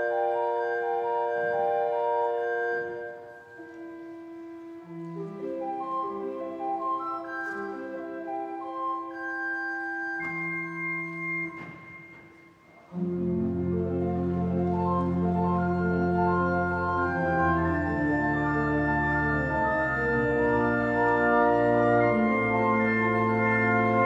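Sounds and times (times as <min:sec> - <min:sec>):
church organ chords: 0:00.0 - 0:24.0.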